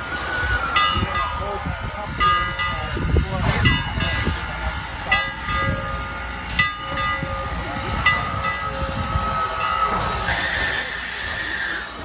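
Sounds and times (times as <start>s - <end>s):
locomotive low rumble: 0.0s - 12.0s
steam hissing: 0.0s - 12.0s.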